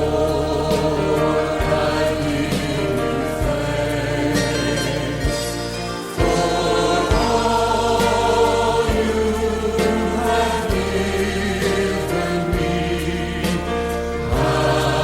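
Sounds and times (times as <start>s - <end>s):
band playing: 0.0s - 15.0s
bass line: 0.0s - 15.0s
choir singing: 0.0s - 15.0s.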